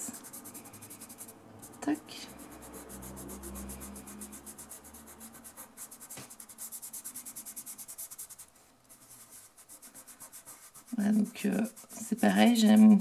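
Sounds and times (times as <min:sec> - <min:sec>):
fingertip rubbing pastel on paper: 0:00.0 - 0:13.0.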